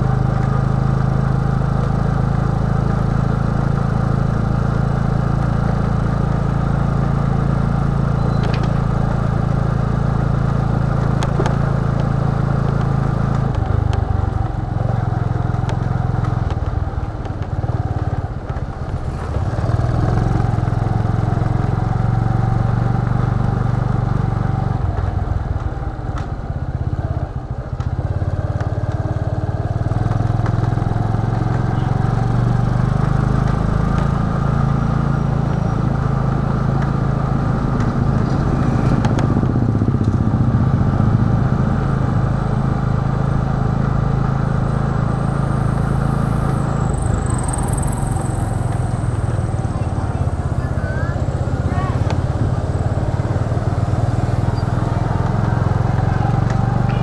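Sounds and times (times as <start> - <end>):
motor scooter engine running: 0.0 - 57.0.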